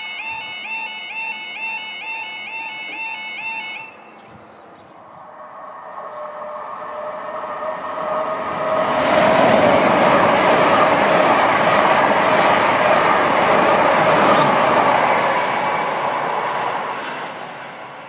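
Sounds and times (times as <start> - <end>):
train whine: 0.0 - 18.0
train passing at speed: 3.4 - 18.0.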